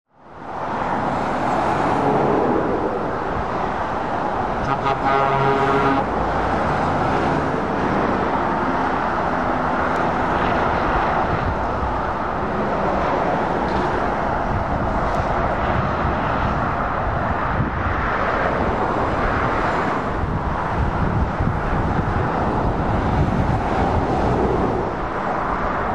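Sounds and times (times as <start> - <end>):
low rumble of diesel engines: 2.3 - 25.9.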